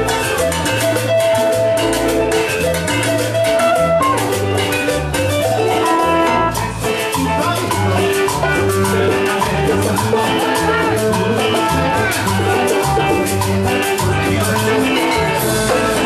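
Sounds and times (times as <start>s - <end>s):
bass line: 0.0s - 16.0s
cumbia band playing: 0.0s - 16.0s
electric guitar: 0.0s - 16.0s
hand percussion: 0.0s - 16.0s.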